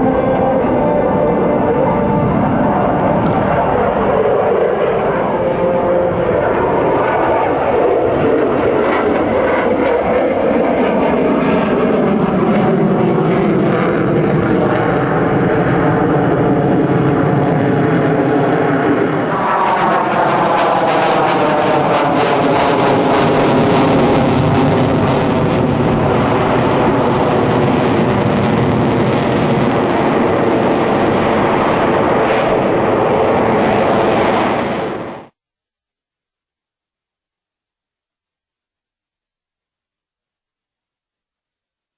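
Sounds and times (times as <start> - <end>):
jet engines roaring overhead: 0.0 - 35.3.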